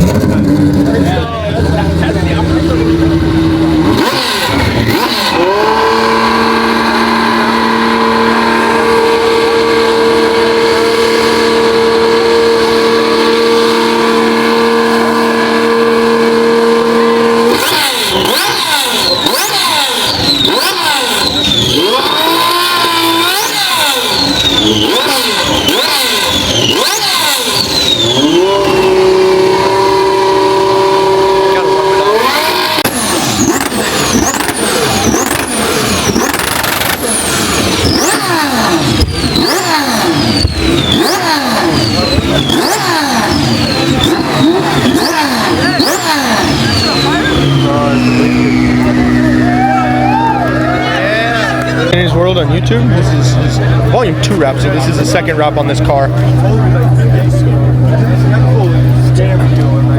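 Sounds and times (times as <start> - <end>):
supercar engine revving: 0.0 - 59.9.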